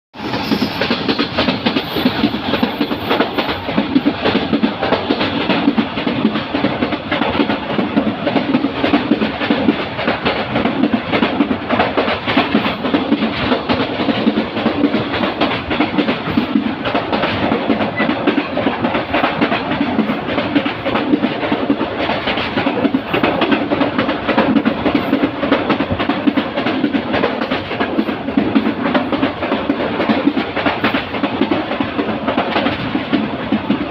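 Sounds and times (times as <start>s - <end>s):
train wheels clickety-clack: 0.2s - 33.9s.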